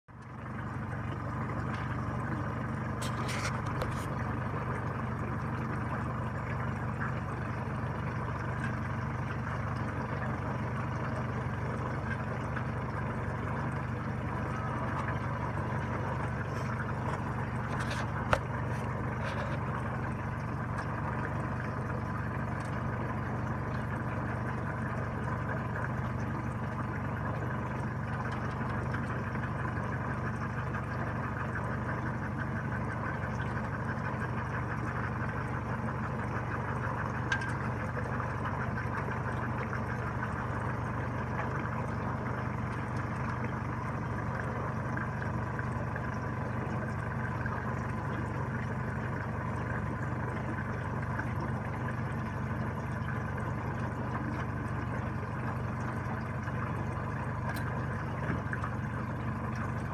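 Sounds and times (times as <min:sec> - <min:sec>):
boat engine idling: 0:00.1 - 0:59.9.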